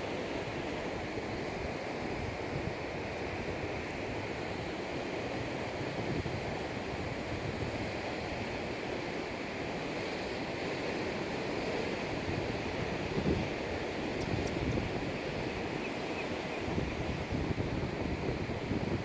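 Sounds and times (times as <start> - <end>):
ocean surf washing in: 0.0 - 19.0.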